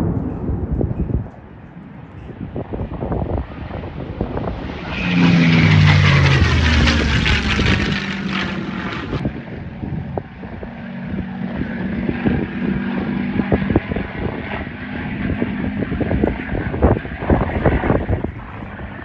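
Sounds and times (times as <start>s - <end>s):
propeller plane engine droning overhead: 0.0s - 19.0s
steady aircraft engine drone: 0.0s - 19.0s
wind buffeting microphone: 0.0s - 19.0s.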